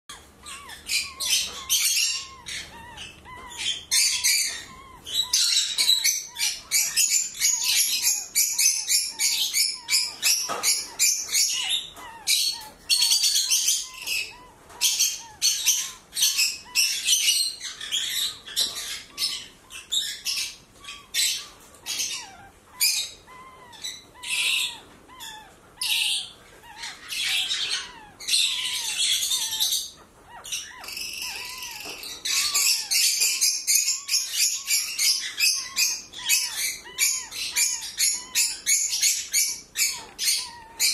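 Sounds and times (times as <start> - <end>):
bird chirping: 0.1 - 40.9
puppies squeaking: 0.1 - 40.9.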